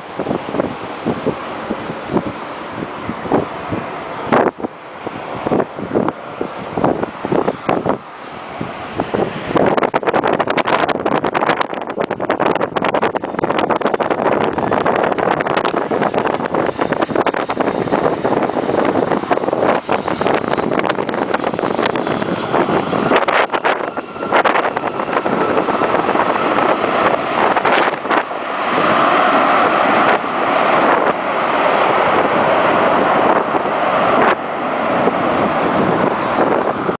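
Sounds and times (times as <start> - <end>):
jet engines roaring: 0.0 - 37.0
wind buffeting microphone: 0.0 - 37.0.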